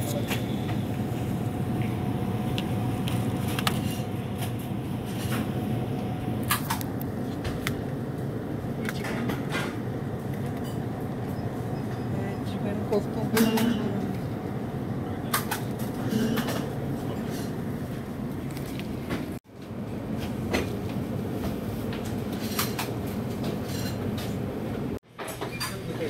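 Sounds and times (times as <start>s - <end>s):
refrigerator hum: 0.0s - 26.0s.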